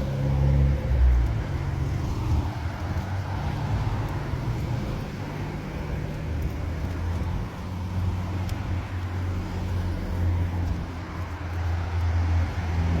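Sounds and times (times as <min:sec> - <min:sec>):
rumble of vehicles: 0:00.0 - 0:13.0.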